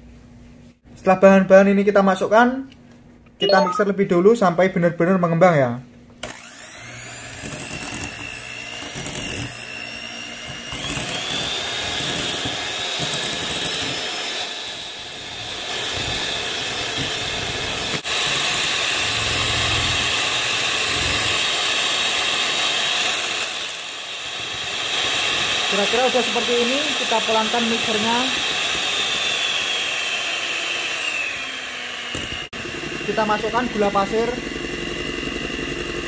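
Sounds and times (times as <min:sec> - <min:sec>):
electric mixer motor whine: 0:06.2 - 0:36.0.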